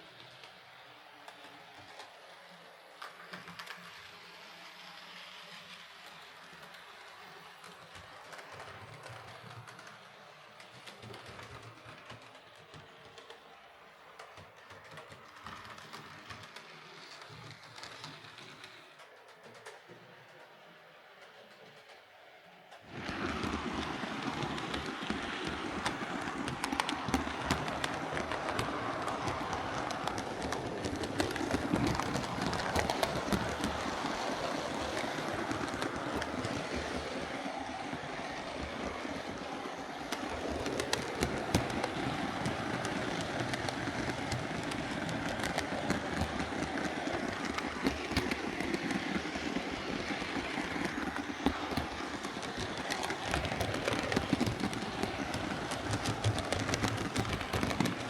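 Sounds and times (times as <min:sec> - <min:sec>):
model train motor whirring: 0:00.0 - 0:19.8, 0:22.8 - 0:58.0
wheels clicking on rails: 0:00.0 - 0:58.0.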